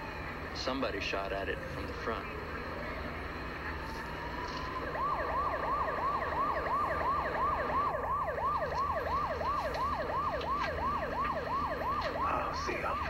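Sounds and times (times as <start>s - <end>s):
emergency siren yelping: 0.0s - 13.0s.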